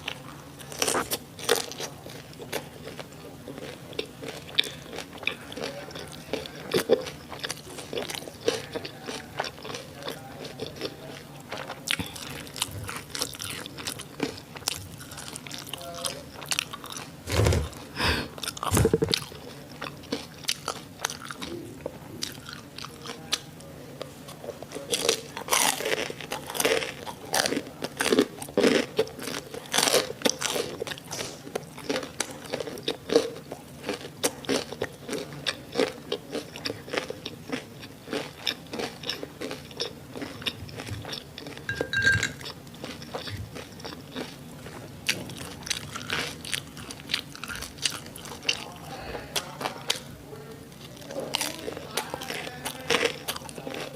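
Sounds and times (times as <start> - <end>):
crunching bites and chewing: 0.0 - 21.6, 22.2 - 23.5, 24.4 - 48.8, 50.9 - 53.9.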